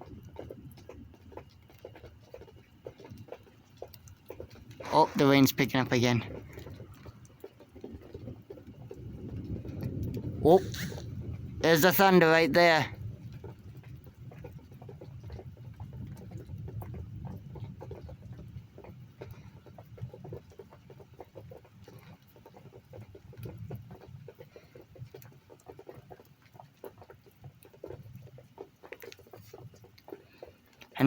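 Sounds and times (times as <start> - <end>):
low rumble of thunder: 0.0 - 26.2
rain pattering: 0.0 - 31.0.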